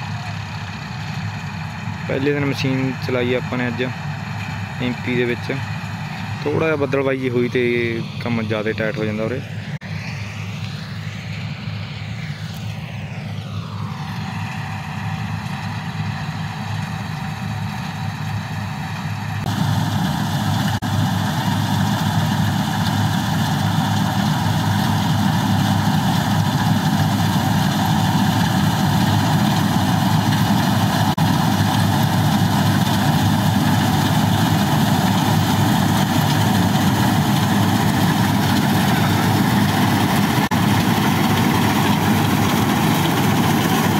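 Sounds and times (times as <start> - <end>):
combine harvester machinery drone: 0.0 - 43.9.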